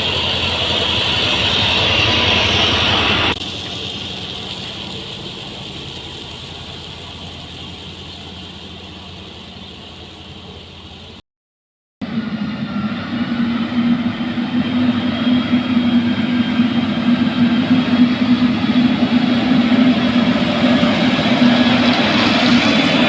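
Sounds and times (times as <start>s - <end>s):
heavy machinery engine running: 0.0s - 11.2s, 12.0s - 23.0s.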